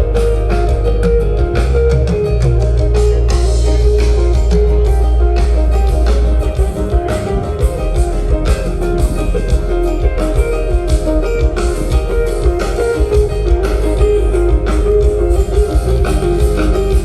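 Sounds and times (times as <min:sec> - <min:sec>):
bass guitar: 0:00.0 - 0:17.0
electric guitar: 0:00.0 - 0:17.0
steady drum beat: 0:00.0 - 0:17.0.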